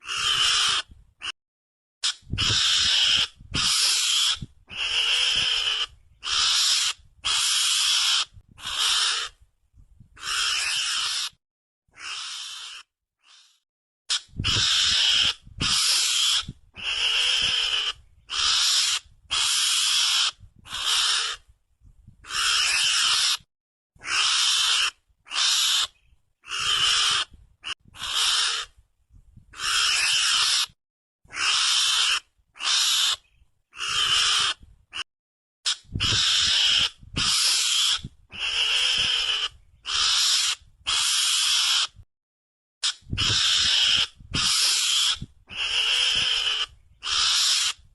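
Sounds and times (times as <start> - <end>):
raspy animal calls: 0.0 - 1.3, 2.0 - 9.4, 10.2 - 21.4, 22.2 - 28.7, 29.6 - 33.2, 33.8 - 35.0, 35.7 - 42.0, 42.8 - 47.9.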